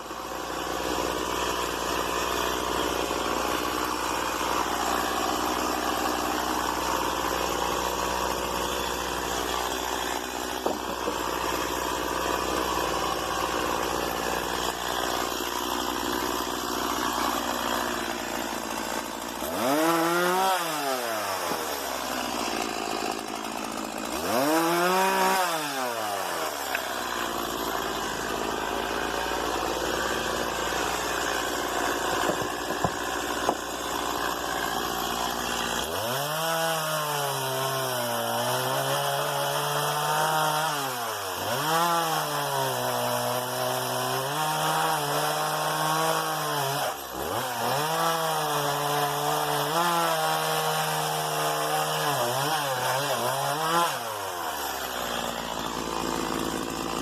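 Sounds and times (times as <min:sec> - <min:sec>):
chainsaw running and revving: 0:00.0 - 0:57.0.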